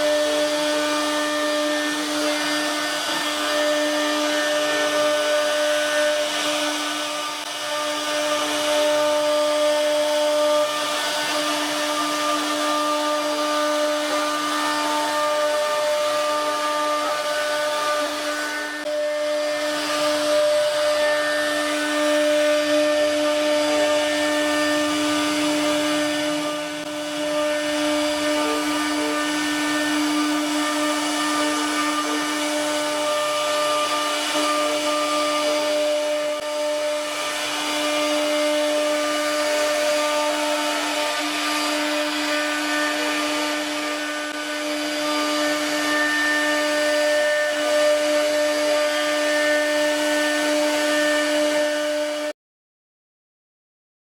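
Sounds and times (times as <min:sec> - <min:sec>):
router spindle whine: 0:00.0 - 0:52.3.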